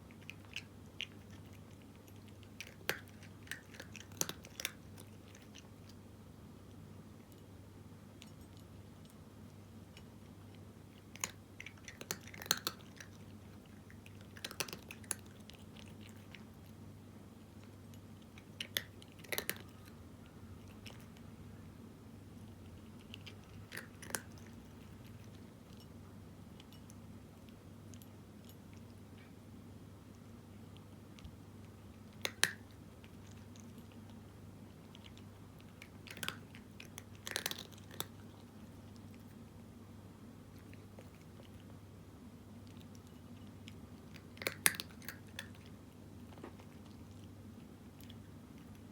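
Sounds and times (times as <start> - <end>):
cat crunching dry kibble: 0.0 - 6.1, 8.1 - 16.8, 17.4 - 21.3, 22.2 - 29.1, 30.2 - 39.4, 40.4 - 41.8, 42.5 - 48.9
faint low hum: 0.0 - 48.9.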